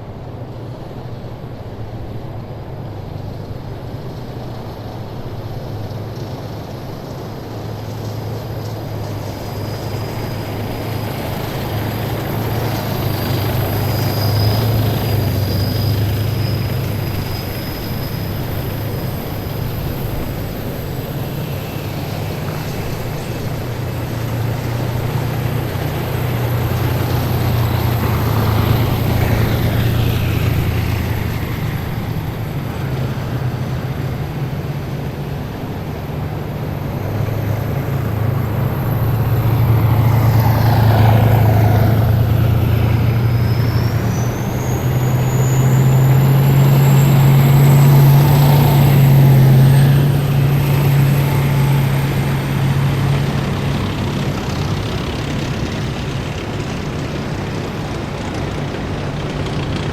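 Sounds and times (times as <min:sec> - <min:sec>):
heavy vehicles driving past: 0:00.0 - 0:59.9.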